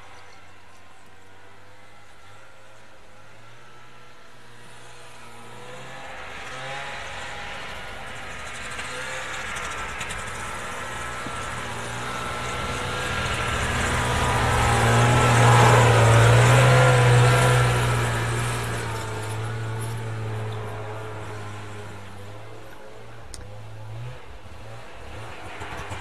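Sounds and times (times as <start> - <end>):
snowmobile engine approaching: 0.0 - 26.0.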